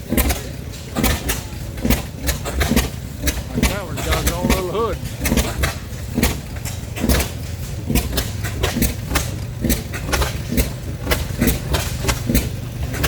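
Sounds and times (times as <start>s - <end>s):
old stationary engines firing: 0.0s - 13.0s.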